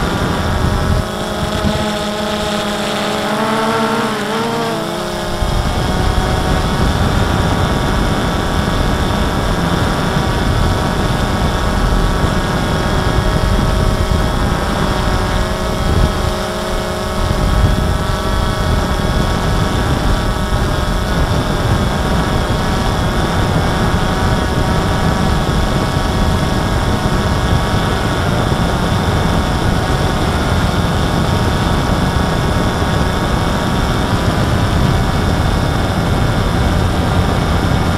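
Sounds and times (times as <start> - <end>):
drone propellers whining: 0.0 - 37.9
wind rumbling on microphone: 0.0 - 37.9.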